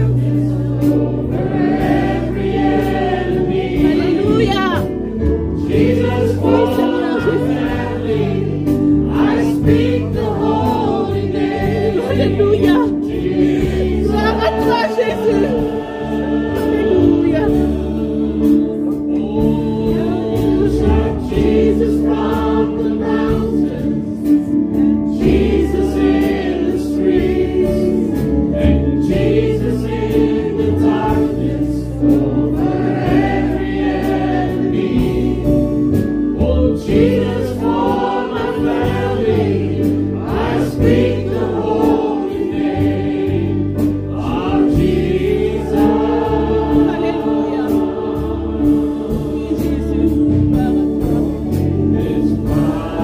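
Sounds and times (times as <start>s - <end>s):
voices singing worship song: 0.0s - 53.0s.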